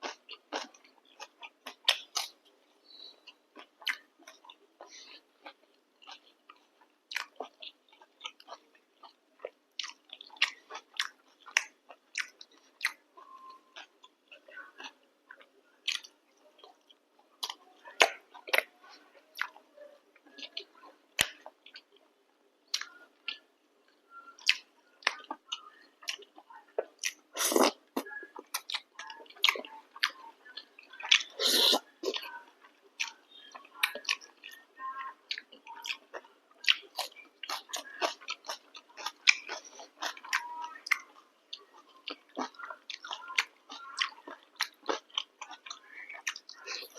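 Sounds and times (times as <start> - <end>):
person chewing with mouth smacks: 0.0 - 19.6, 22.7 - 23.4, 24.3 - 46.9.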